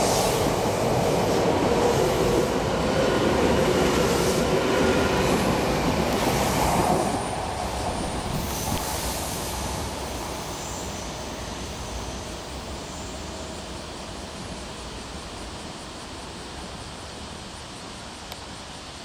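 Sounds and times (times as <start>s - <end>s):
electric train running: 0.0s - 16.7s.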